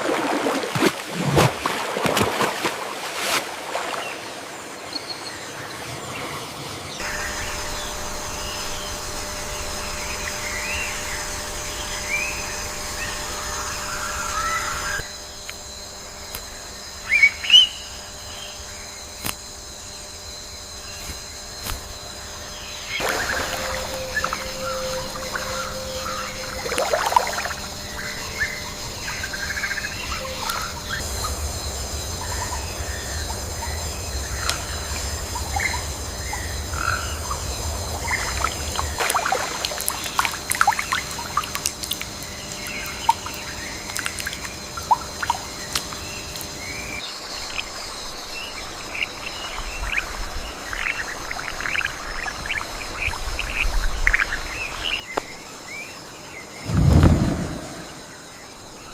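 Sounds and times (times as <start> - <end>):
steady high-pitched drone: 7.0 - 54.8.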